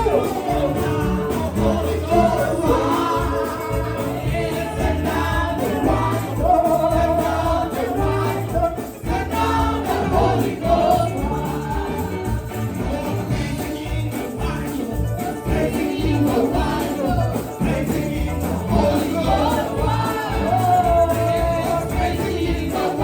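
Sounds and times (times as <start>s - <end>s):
choir singing gospel song: 0.0s - 23.0s
instrumental backing with bass: 0.0s - 23.0s.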